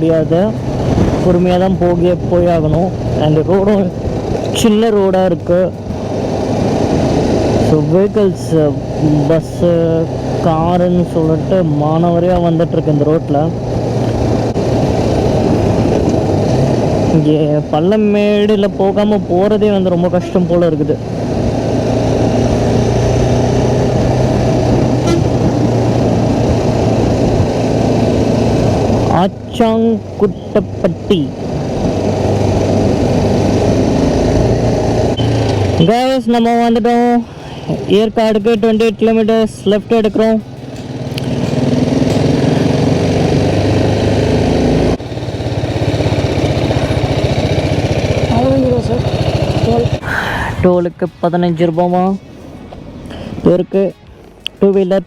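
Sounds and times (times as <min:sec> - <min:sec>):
motorcycle engine running: 0:00.0 - 0:50.2
road and wind rush: 0:00.0 - 0:55.0.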